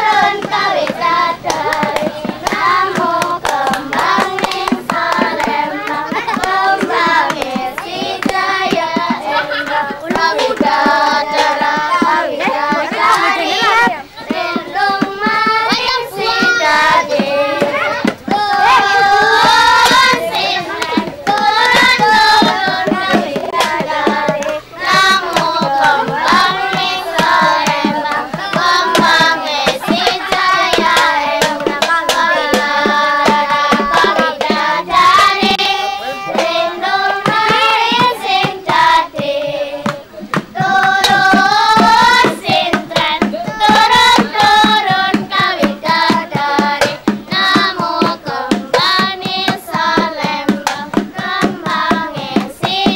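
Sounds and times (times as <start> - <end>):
group of voices singing: 0.0 - 52.9
percussion: 0.0 - 52.9
rhythmic hand clapping: 0.0 - 52.9.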